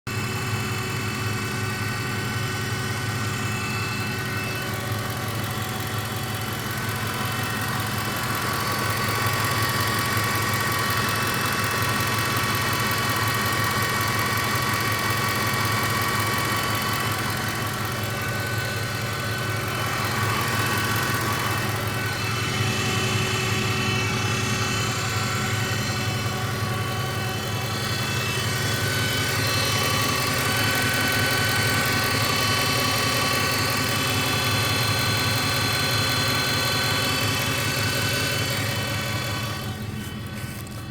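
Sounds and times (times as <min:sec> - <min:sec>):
pickup truck engine humming: 0:01.1 - 0:40.9.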